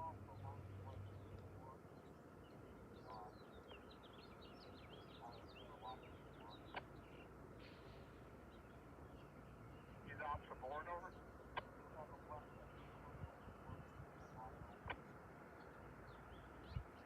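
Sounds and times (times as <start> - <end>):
low bird calls: 0.0 - 17.0
small birds chirping: 0.0 - 17.0.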